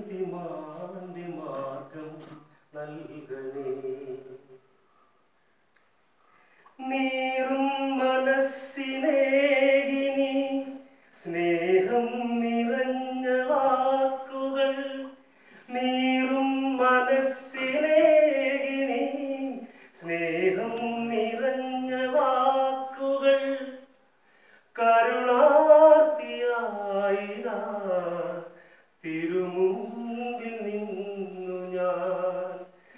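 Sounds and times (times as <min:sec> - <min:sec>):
man singing unaccompanied: 0:00.0 - 0:04.6, 0:06.7 - 0:24.0, 0:24.7 - 0:32.9.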